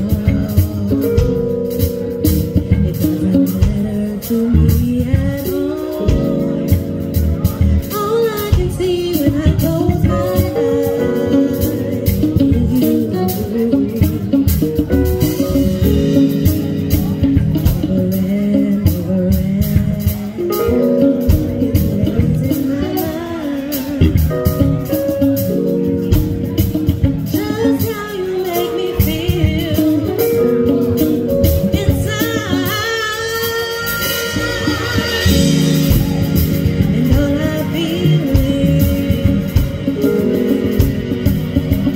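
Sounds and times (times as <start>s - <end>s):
live band playing: 0.0s - 41.9s
steady drum beat: 0.0s - 41.9s
woman singing lead: 0.0s - 41.9s.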